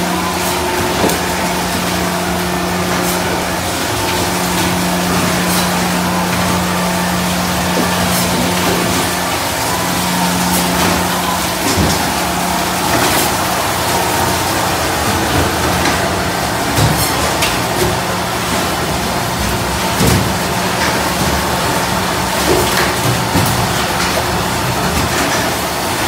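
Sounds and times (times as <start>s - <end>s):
machinery clanks and knocks: 0.0s - 26.0s
machinery low hum: 0.0s - 26.0s.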